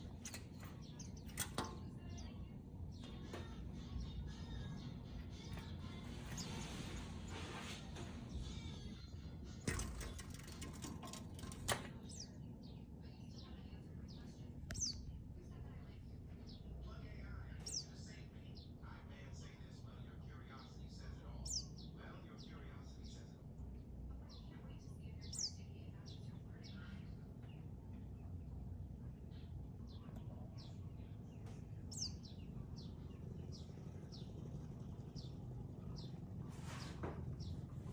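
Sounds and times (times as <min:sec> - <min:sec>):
low background rumble: 0:00.0 - 0:37.9
small birds chirping: 0:00.0 - 0:37.9.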